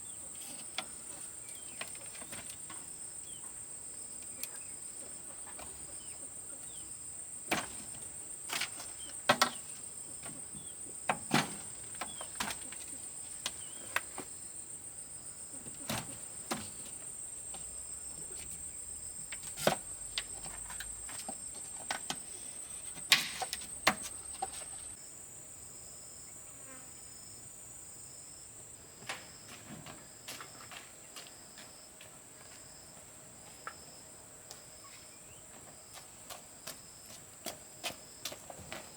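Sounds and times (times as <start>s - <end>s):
faint pulsing insect: 0.0s - 38.9s
insects chirring: 0.0s - 38.9s.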